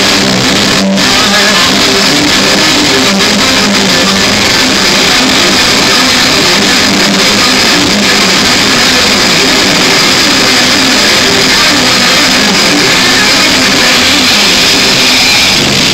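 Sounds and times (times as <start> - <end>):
distorted rock music with guitar: 0.0 - 15.9.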